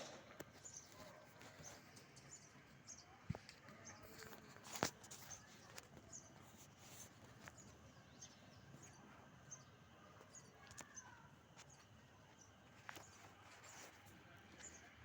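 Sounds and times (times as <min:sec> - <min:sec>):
nestling birds cheeping: 0:00.0 - 0:15.0.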